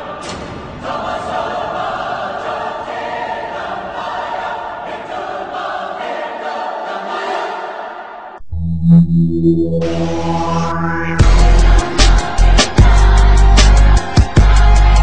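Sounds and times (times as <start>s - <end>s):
choir singing held chords: 0.0s - 8.4s, 9.7s - 15.0s.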